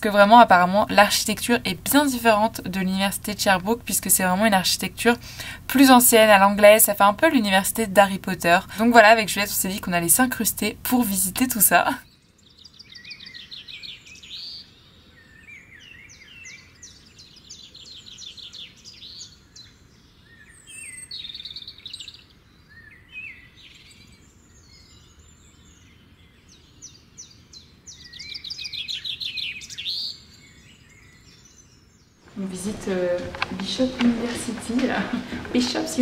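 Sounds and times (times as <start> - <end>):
faint low background noise: 0.0 - 36.0
songbirds chirping and singing: 0.0 - 36.0.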